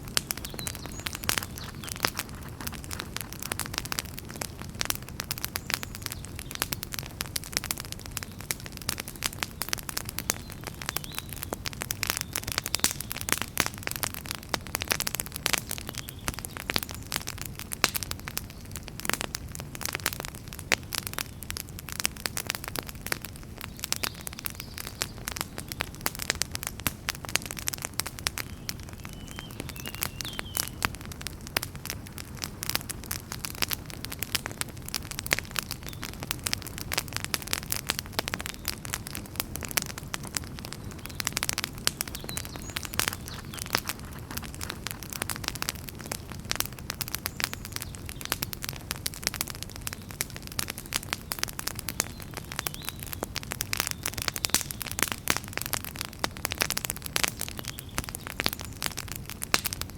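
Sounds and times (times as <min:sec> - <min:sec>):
low noise of flames: 0:00.0 - 0:59.9
wood fire crackling and popping: 0:00.0 - 0:59.9.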